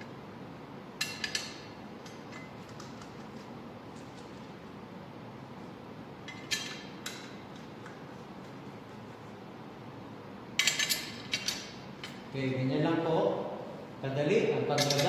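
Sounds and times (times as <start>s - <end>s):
room noise: 0.0s - 15.0s.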